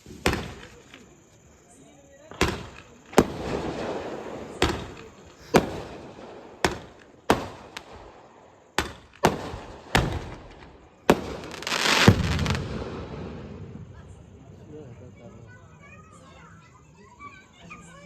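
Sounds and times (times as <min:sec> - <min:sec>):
fireworks crackling: 0:00.0 - 0:14.5
fireworks bangs: 0:00.0 - 0:14.6.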